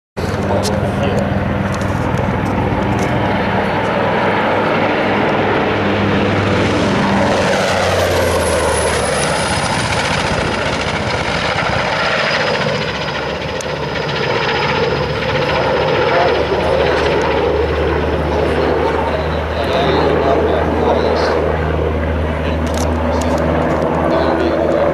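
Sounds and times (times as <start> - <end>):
helicopter turbine whining: 0.2 - 24.9.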